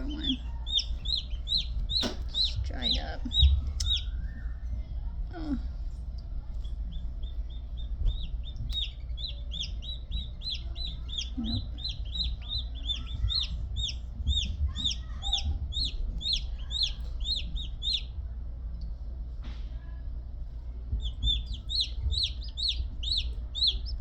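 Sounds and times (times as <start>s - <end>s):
chicks peeping: 0.0s - 18.4s, 20.8s - 24.0s.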